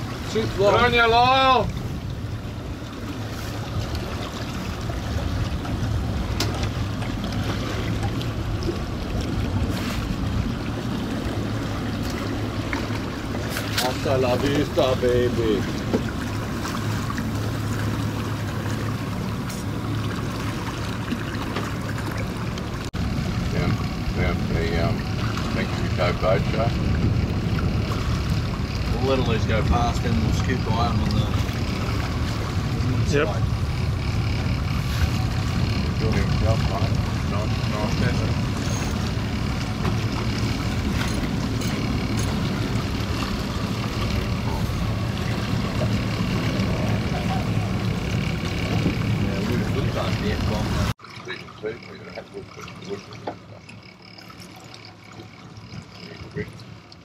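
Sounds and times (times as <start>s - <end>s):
boat engine humming: 0.0s - 57.0s
water splashing along hull: 0.0s - 57.0s.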